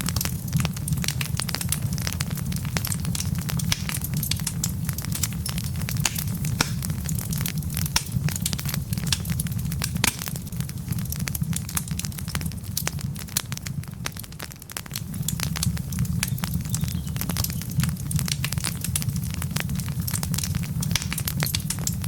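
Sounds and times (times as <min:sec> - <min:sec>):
low rumble of burning logs: 0:00.0 - 0:22.0
wood fire pops and snaps: 0:00.0 - 0:22.0.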